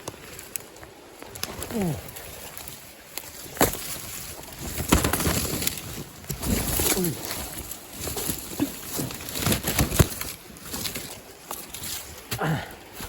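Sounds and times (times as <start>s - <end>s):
footsteps scrambling on slope: 0.0s - 13.0s.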